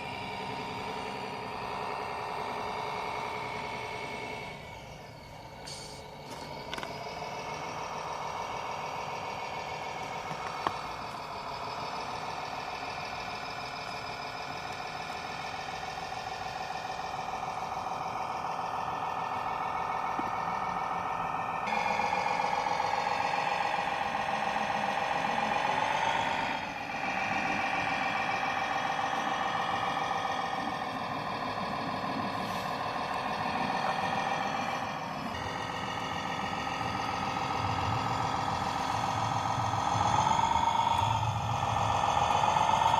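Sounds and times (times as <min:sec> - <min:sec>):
model truck motors whining: 0:00.0 - 0:42.9
sound module engine drone: 0:00.0 - 0:42.9.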